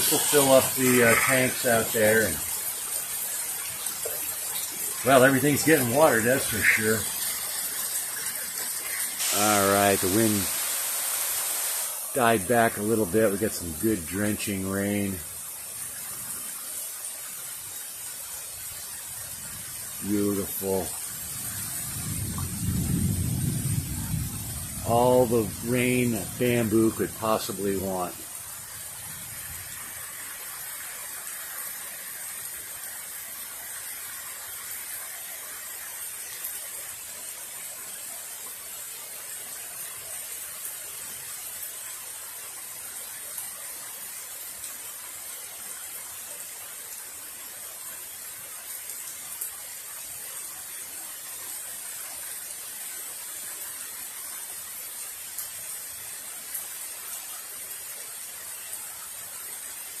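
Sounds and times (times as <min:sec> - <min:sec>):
heavy rain hissing: 0:00.0 - 1:00.0
raindrops tapping surfaces: 0:00.0 - 1:00.0.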